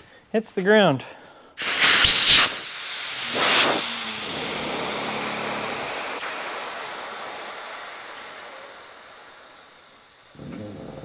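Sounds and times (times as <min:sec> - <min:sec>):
compressed air hissing: 0:01.6 - 0:11.0.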